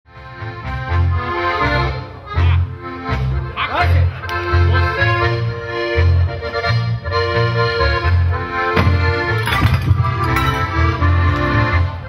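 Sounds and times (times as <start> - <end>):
band playing folk music: 0.1 - 12.0.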